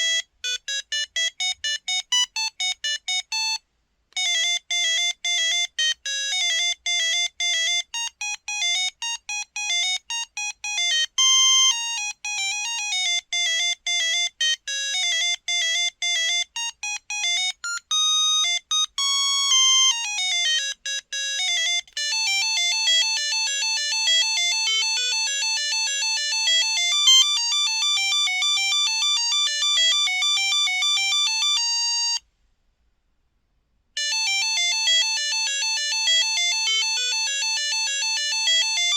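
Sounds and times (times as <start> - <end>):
mobile phone ringtone melody: 0.0 - 3.6, 4.2 - 32.2, 34.0 - 38.9.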